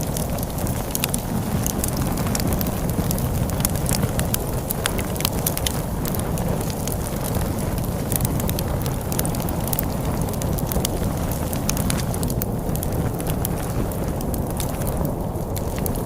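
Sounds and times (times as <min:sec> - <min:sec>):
storm wind rumbling: 0:00.0 - 0:16.0
wood fire crackling and popping: 0:00.0 - 0:16.0.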